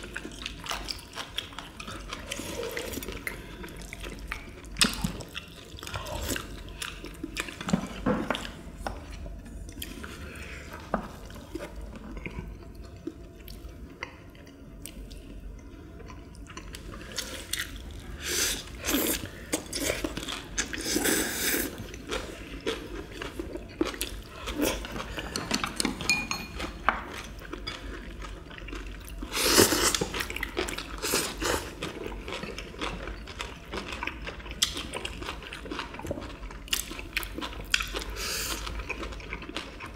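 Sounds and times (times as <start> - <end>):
chewing and wet mouth sounds: 0.0 - 39.9.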